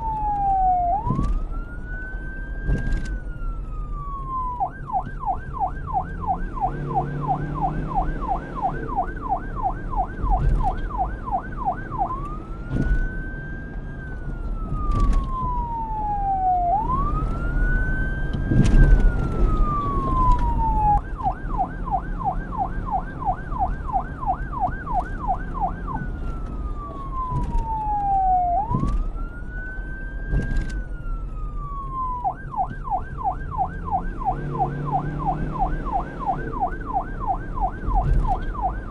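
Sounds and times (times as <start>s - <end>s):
low road rumble: 0.0s - 38.9s
police siren yelp and wail: 0.0s - 38.9s.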